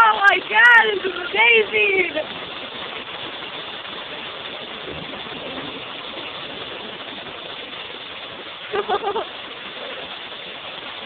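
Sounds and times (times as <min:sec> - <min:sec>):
heavy hail falling: 0:00.0 - 0:11.0.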